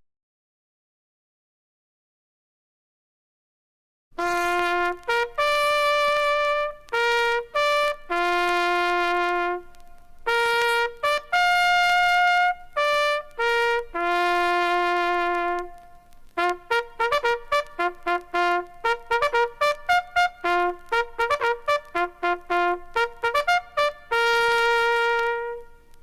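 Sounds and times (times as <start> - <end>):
bugle playing: 4.2 - 26.0.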